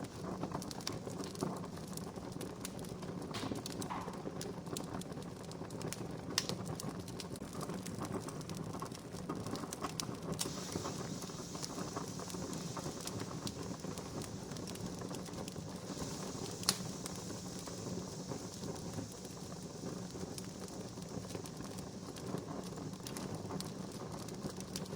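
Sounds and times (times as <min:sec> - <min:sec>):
campfire crackling: 0:00.0 - 0:24.9
fire pops: 0:00.0 - 0:24.9.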